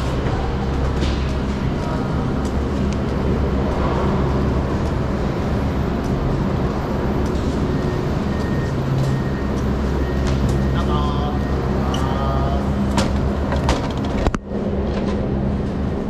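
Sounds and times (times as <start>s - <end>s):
low mechanical rumble and hum: 0.0s - 16.0s.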